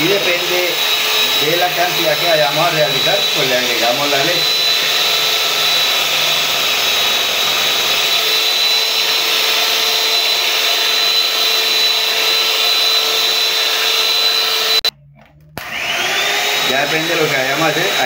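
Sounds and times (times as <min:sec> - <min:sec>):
electric hand mixer whipping: 0:00.0 - 0:14.9, 0:15.6 - 0:18.0.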